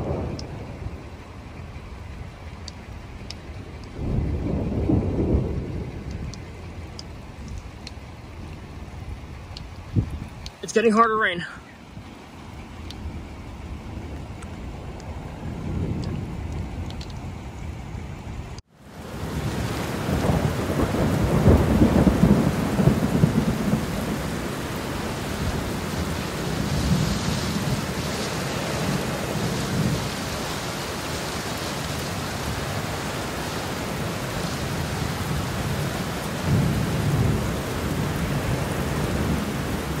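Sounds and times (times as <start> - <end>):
thunder rumbling: 0.0 - 10.8, 12.0 - 40.0
heavy rain: 0.0 - 40.0.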